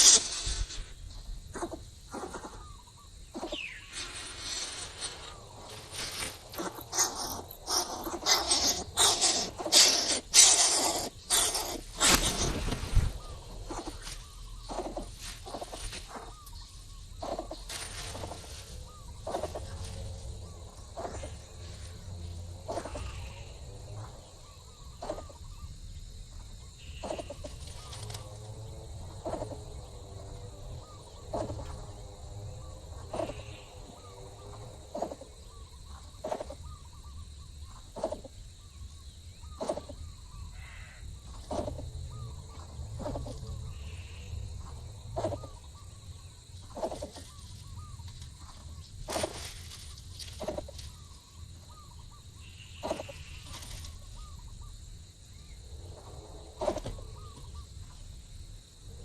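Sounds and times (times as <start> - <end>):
birds calling in sharp notes: 0.0 - 58.5
high insect drone: 0.0 - 59.0.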